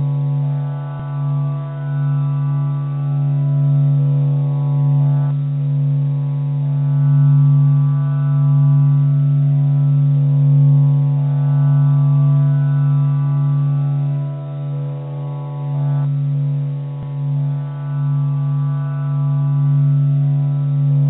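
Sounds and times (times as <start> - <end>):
low droning tone: 0.0 - 21.0.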